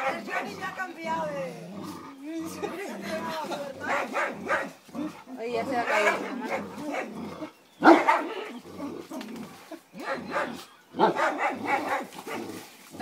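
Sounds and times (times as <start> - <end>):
dogs growling and barking: 0.0 - 13.0.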